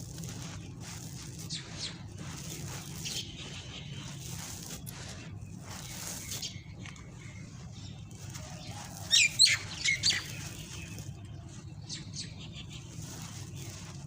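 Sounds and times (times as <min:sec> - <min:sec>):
faint grainy rustle: 0:00.0 - 0:14.0
gritty crumbling crunches: 0:00.0 - 0:14.0.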